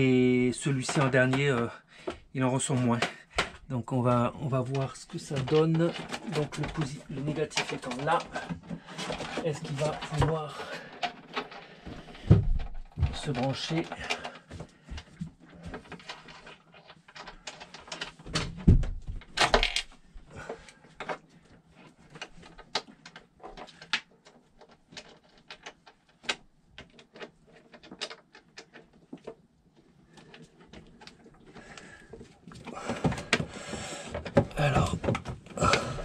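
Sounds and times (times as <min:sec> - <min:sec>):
battery cables clicking and knocking: 0:00.0 - 0:03.8, 0:04.5 - 0:36.0.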